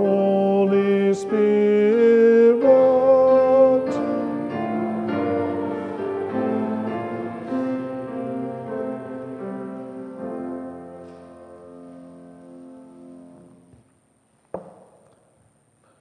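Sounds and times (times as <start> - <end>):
keyboard playing slow held chords: 0.0 - 13.7.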